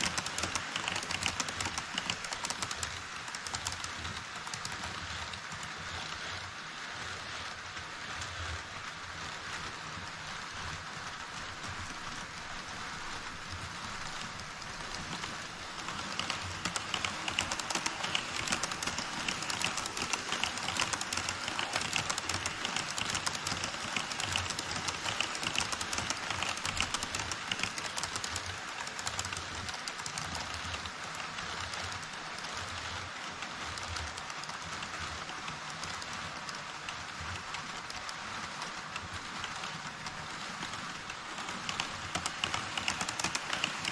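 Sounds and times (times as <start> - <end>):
clicking at rail joints: 0.0 - 6.4, 7.1 - 43.9
model train wheels clattering: 0.0 - 43.9.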